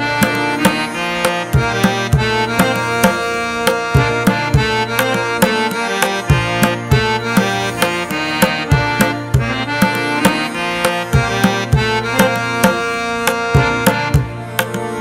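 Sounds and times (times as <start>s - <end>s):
sustained melodic notes: 0.0s - 15.0s
hand-drum beat: 0.1s - 15.0s.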